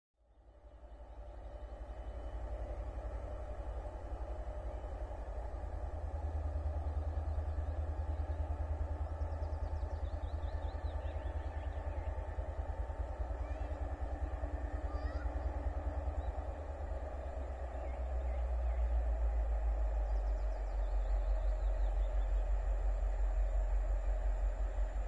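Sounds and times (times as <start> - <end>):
diesel locomotive engine rumble: 0.2 - 25.0.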